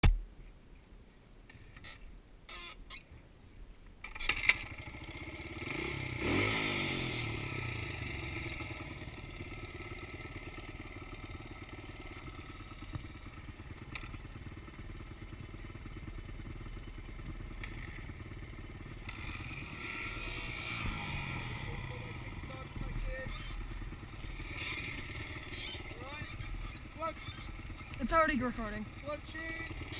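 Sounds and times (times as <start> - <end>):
dirt bike engine revving and idling: 4.2 - 29.9.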